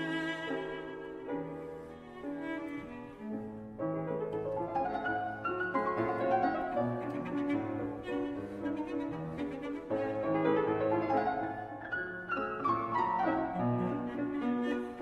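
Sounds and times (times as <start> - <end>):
bowed strings: 0.0 - 15.0
piano: 0.0 - 15.0.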